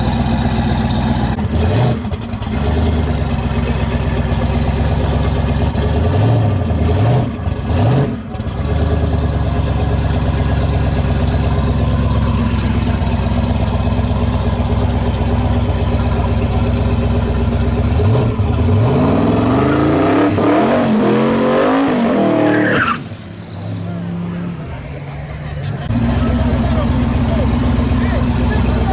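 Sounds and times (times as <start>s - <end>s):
loud car engine revving: 0.0s - 28.9s.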